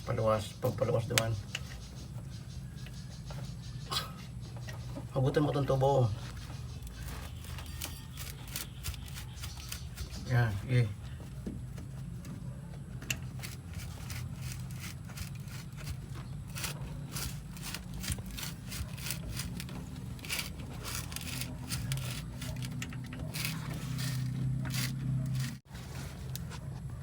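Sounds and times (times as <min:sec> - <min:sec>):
tools clicking and scraping: 0:00.7 - 0:10.6, 0:13.0 - 0:26.5.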